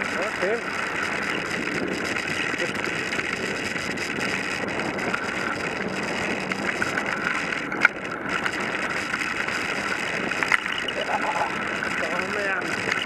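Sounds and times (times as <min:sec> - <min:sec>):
bicycle tyres rolling on gravel: 0:00.0 - 0:13.0.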